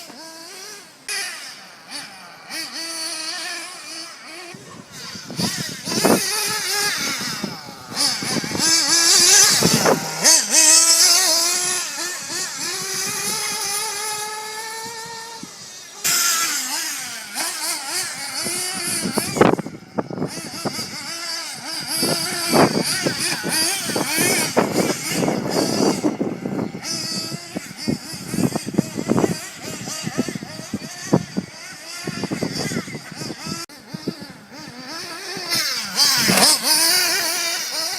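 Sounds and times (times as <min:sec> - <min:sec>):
model buggy engine revving: 0:00.0 - 0:37.9.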